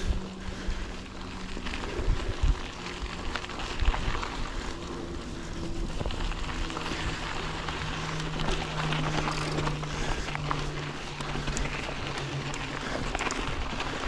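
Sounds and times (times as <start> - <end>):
mountain bike tyre and trail noise: 0.0 - 14.0.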